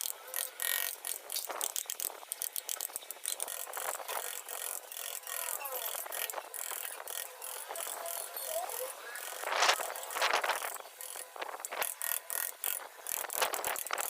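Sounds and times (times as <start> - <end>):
carving tool scraping wood: 0.3 - 14.0.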